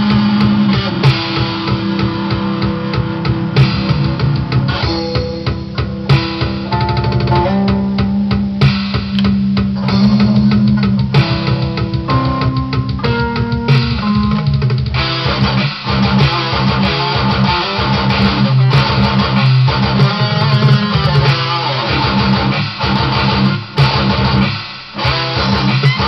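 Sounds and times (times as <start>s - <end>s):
electric guitar metal riffing: 0.0s - 26.0s.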